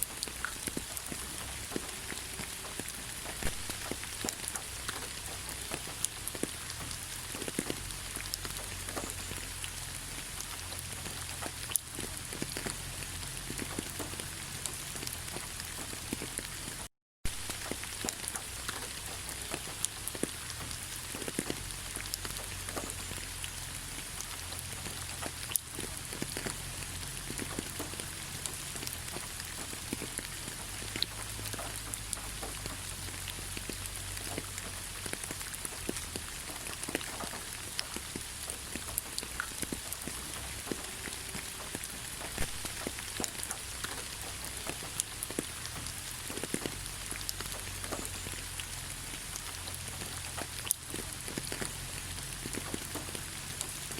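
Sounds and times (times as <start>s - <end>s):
rain falling: 0.0s - 53.9s
raindrop ticks: 0.0s - 53.9s.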